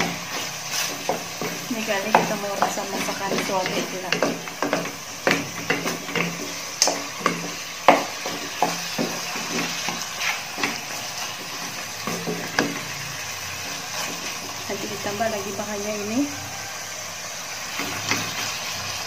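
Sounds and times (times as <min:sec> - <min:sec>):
spatula scraping and knocking pan: 0:00.0 - 0:15.6, 0:17.7 - 0:18.9
chicken sizzling in a pan: 0:00.0 - 0:19.0.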